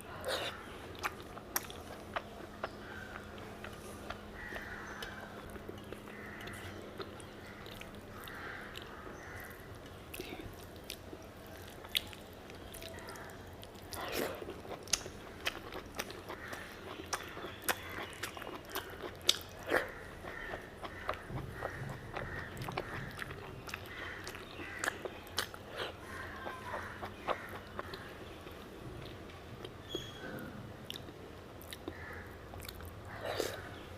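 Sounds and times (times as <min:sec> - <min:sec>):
person chewing: 0:00.0 - 0:29.8, 0:30.9 - 0:33.8.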